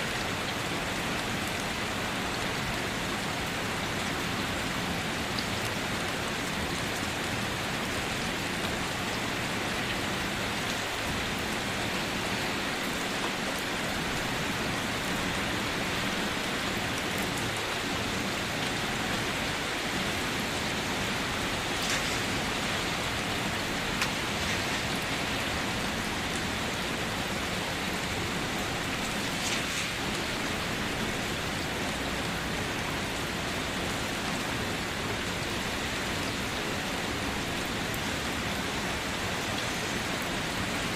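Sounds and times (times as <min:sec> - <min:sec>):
rain falling: 0:00.0 - 0:40.9
sharp raindrops: 0:00.0 - 0:40.9.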